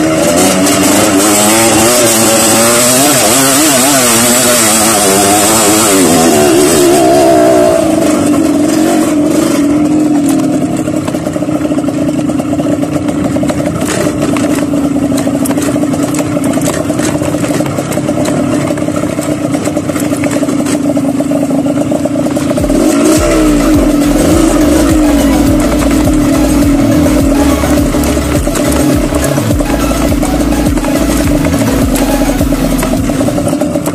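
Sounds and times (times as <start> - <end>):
bike clicks and clatter: 0.0 - 7.0, 7.8 - 33.9
dirt bike engine: 0.0 - 33.9.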